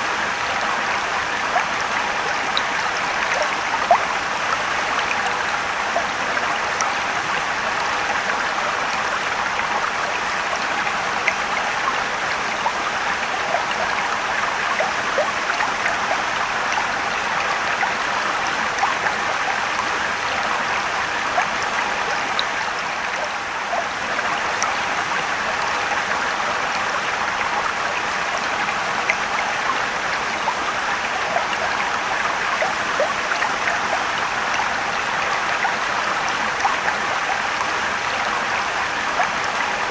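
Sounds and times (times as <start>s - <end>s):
stream rushing over rocks: 0.0s - 39.9s
water splashes and trickles: 0.0s - 39.9s.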